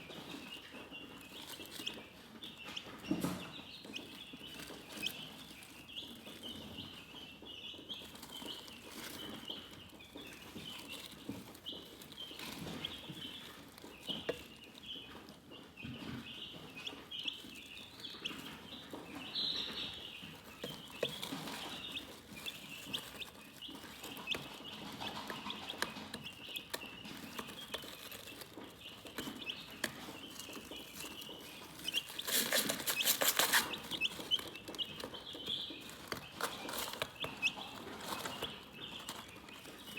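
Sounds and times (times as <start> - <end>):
chickens chirping: 0.0 - 39.9.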